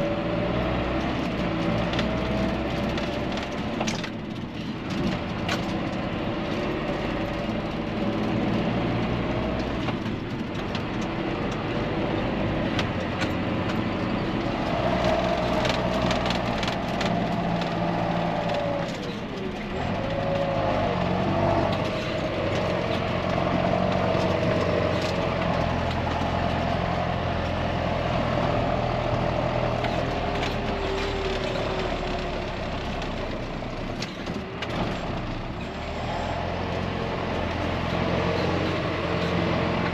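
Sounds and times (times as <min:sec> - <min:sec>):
engine whine: 0:00.0 - 0:39.9
tractor diesel engine running: 0:00.0 - 0:39.9.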